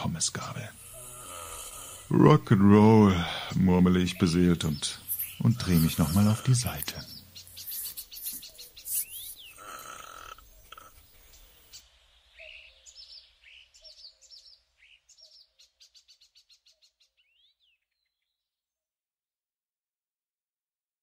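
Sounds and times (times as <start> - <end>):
birds chirping: 0.0 - 18.5.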